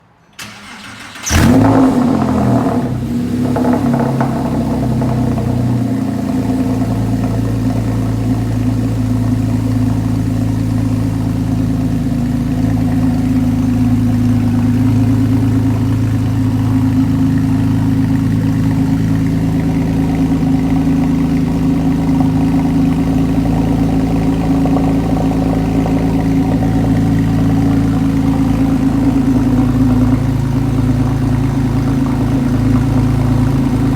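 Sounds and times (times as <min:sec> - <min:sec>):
car engine idling loudly: 0:01.3 - 0:33.9.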